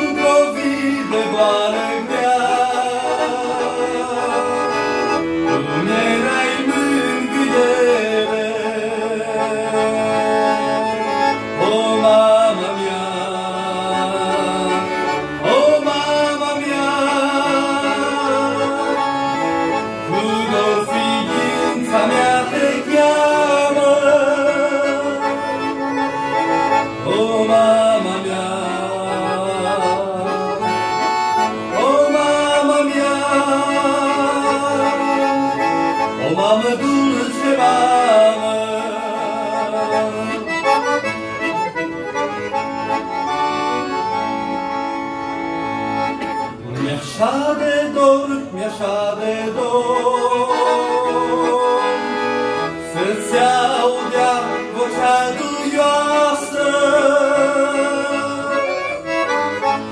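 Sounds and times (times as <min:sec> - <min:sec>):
accordion melody: 0:00.0 - 0:59.9.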